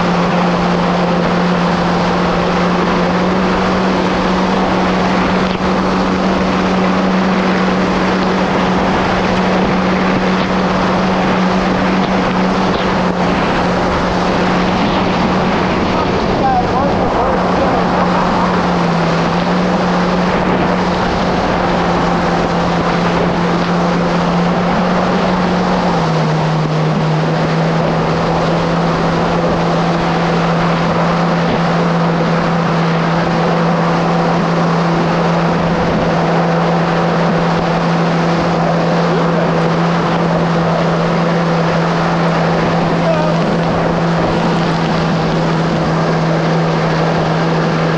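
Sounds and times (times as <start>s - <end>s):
jet ski engine droning: 0.0s - 47.9s
water rushing off hull: 0.0s - 47.9s
wind on microphone: 0.0s - 47.9s.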